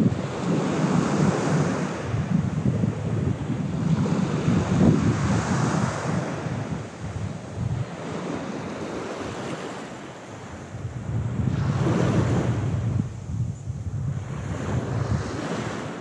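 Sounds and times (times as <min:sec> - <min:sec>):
sea waves washing on shore: 0:00.0 - 0:16.0
wind buffeting microphone: 0:00.0 - 0:16.0.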